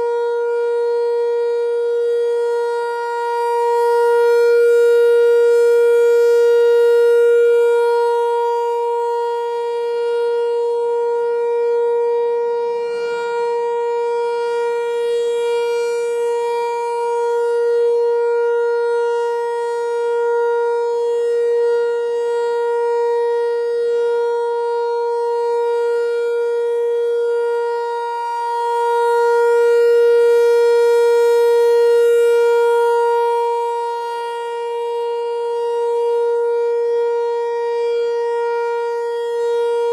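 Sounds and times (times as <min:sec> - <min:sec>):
rotating siren steady tone: 0:00.0 - 0:39.9.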